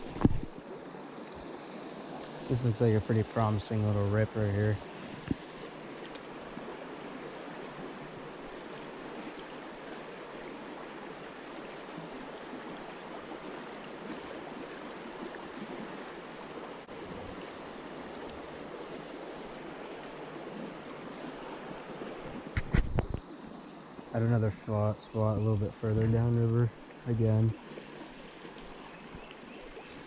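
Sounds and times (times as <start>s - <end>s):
river current rushing: 0.0s - 24.1s, 25.1s - 30.0s.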